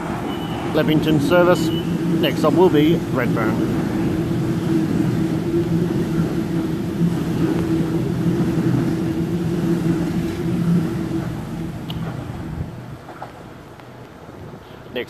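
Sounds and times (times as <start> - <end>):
electric train hum: 0.0 - 14.6
train wheel rumble: 0.0 - 14.9.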